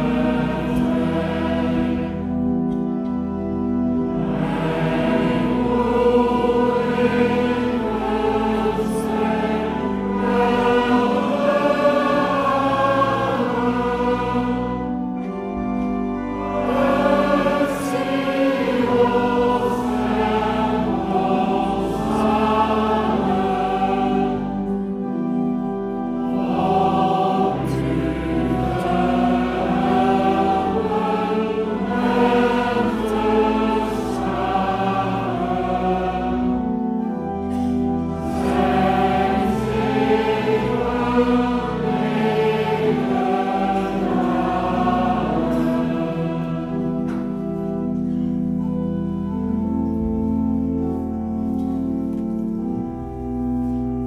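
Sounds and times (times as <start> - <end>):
church organ chords: 0.0 - 54.0
congregation singing a hymn: 0.0 - 54.0.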